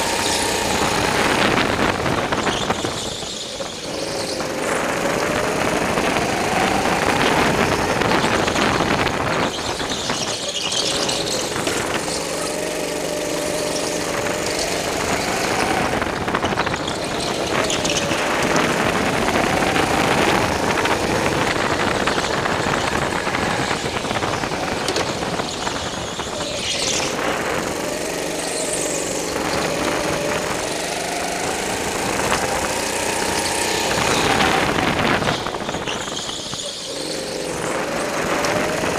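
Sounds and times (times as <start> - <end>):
go-kart engine running hard: 0.0 - 38.9
tyres squealing: 0.0 - 38.9.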